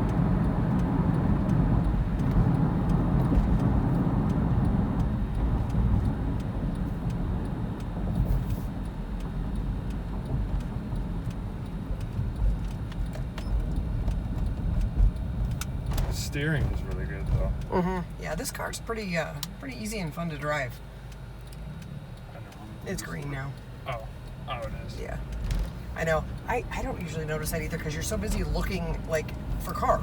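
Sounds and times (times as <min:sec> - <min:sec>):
car cabin road and engine noise: 0:00.0 - 0:30.0.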